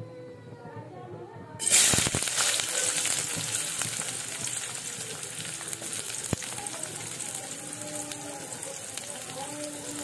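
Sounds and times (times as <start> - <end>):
onions sizzling in hot oil: 1.6 - 10.0.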